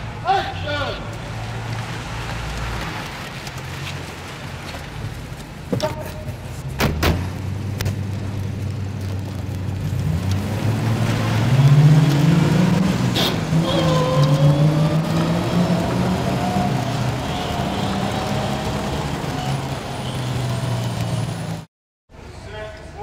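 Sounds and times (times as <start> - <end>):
car engine pulling away: 1.2 - 21.7.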